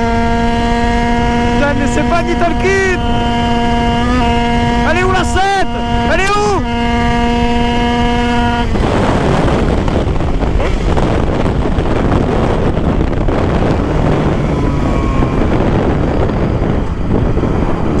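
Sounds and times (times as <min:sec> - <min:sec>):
moped engine at full throttle: 0:00.0 - 0:18.0
wind noise on microphone: 0:00.0 - 0:18.0.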